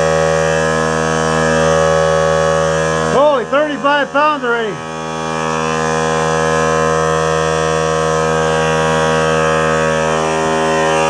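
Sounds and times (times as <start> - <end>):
electric air compressor running: 0.0 - 11.0.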